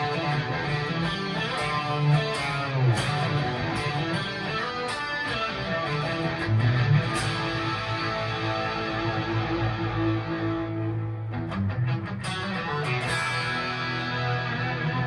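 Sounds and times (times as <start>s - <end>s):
distorted electric guitar notes: 0.0s - 15.0s.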